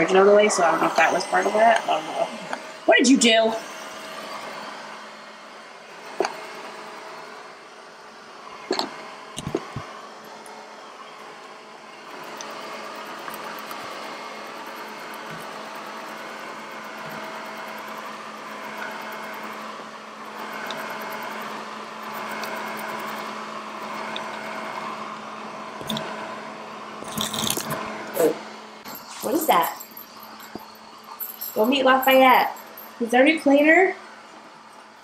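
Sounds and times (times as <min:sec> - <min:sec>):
robot vacuum humming: 0:00.0 - 0:30.7.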